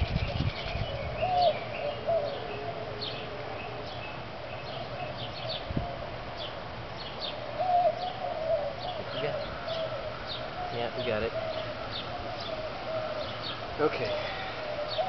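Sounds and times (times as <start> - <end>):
low bird cooing: 0.0 - 15.0.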